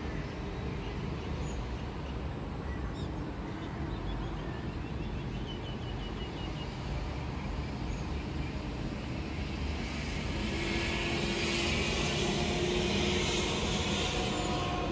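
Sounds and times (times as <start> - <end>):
aircraft engines rumbling overhead: 0.0 - 14.9.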